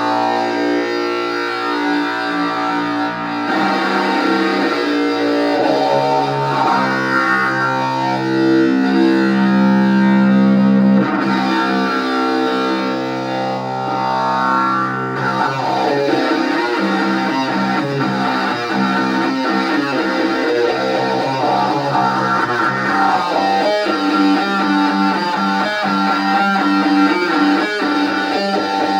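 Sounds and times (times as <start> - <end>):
distorted electric guitar riffs: 0.0 - 28.9.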